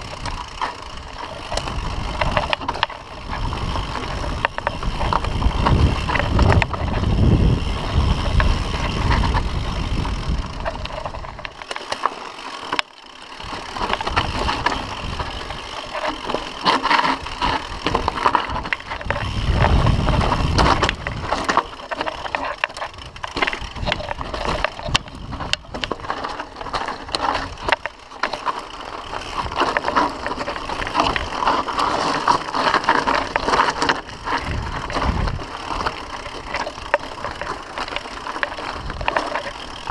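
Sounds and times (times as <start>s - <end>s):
wind rumbling on microphone: 0.0s - 11.5s, 13.4s - 16.0s, 17.2s - 27.8s, 29.2s - 39.9s
bike rattling: 0.0s - 39.9s
tyres crunching over stones: 0.0s - 39.9s.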